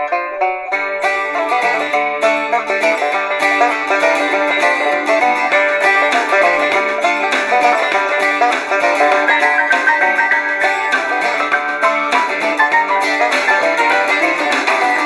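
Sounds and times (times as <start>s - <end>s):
thin music from small radio: 0.0s - 15.0s.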